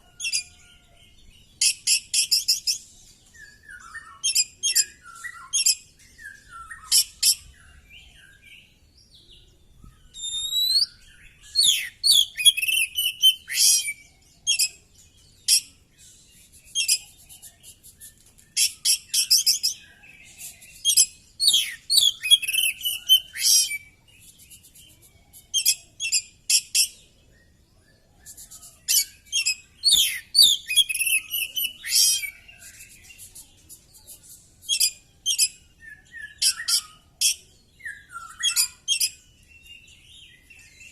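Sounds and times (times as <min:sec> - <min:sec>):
songbird whistling and chattering: 0:01.6 - 0:08.1, 0:09.7 - 0:27.1, 0:28.1 - 0:40.9.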